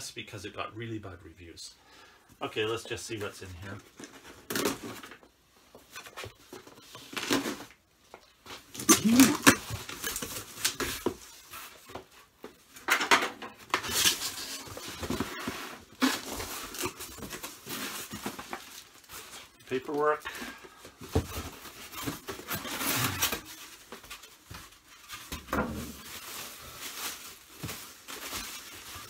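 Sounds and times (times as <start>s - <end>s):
box and packing material opened: 3.2s - 12.2s, 13.4s - 29.0s.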